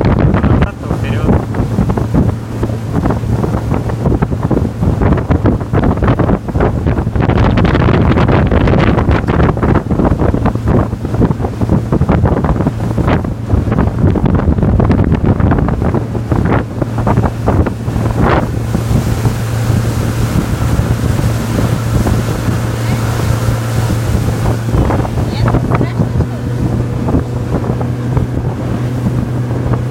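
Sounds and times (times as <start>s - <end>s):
motorboat engine droning: 0.0s - 29.9s
water rushing past hull: 0.0s - 29.9s
wind buffeting microphone: 0.0s - 29.9s.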